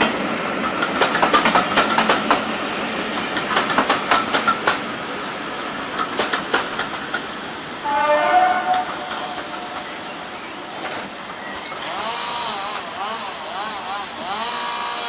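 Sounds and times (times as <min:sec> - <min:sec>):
train wheels clicking over rail joints: 0:00.0 - 0:07.6, 0:08.4 - 0:15.0.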